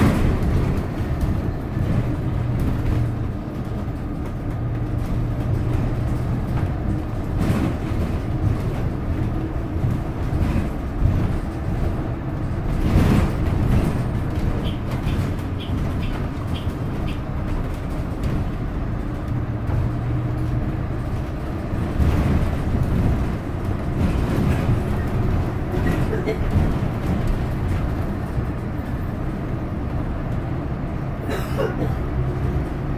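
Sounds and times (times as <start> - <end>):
bus drivetrain hum: 0.0 - 32.9
road rumble: 0.0 - 32.9.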